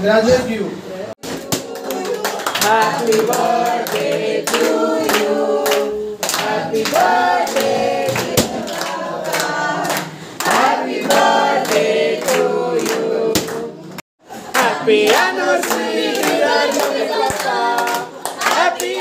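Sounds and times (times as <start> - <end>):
group singing: 1.2 - 19.0
people clapping along: 1.2 - 19.0.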